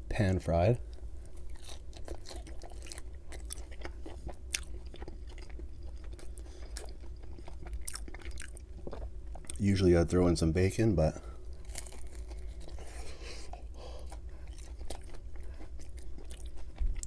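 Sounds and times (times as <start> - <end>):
chewing crispy food: 0.8 - 9.8, 11.2 - 17.0.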